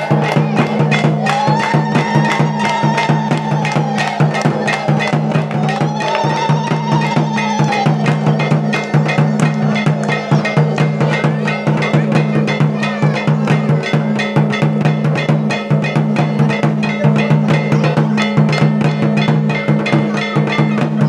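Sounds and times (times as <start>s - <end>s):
fast dance drum beat: 0.0s - 21.0s.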